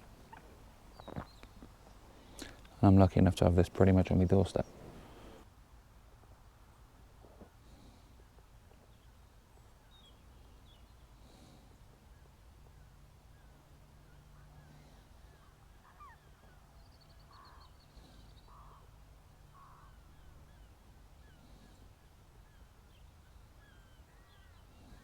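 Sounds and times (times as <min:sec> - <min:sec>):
distant bird calls: 0:00.0 - 0:05.5, 0:09.0 - 0:25.0
faint songbird chirps: 0:00.0 - 0:05.5, 0:08.2 - 0:25.0.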